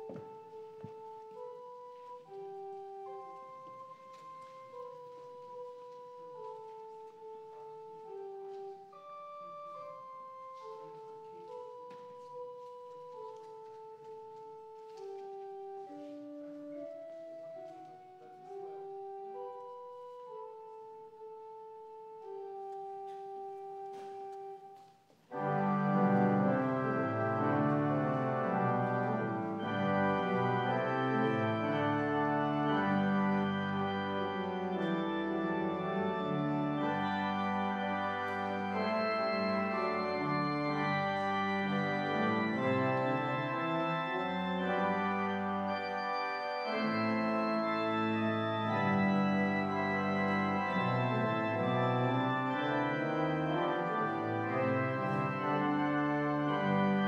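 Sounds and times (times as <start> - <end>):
organ music: 0.0 - 57.0.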